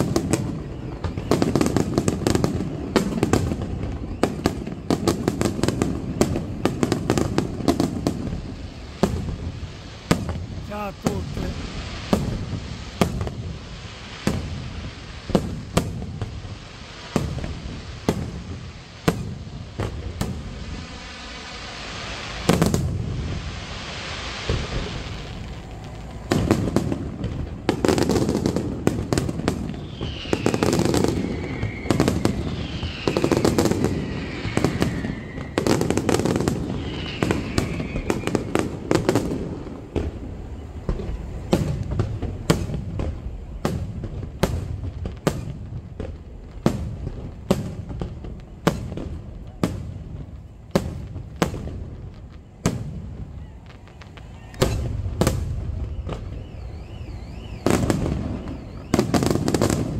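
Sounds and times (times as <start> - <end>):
falling firework whistles: 0.0 - 59.9
firework bangs: 0.0 - 59.9
firework crackle: 0.0 - 59.9.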